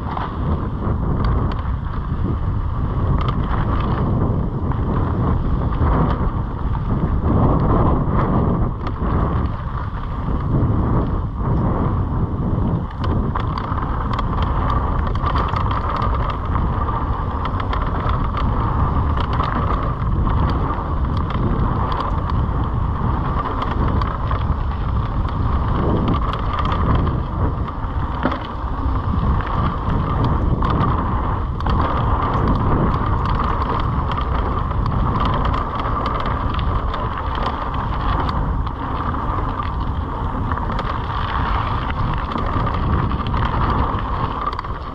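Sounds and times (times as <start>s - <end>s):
bike clicks and rattles: 0.0s - 44.9s
tyres rolling on dirt: 0.0s - 44.9s
wind rushing over microphone: 0.0s - 44.9s.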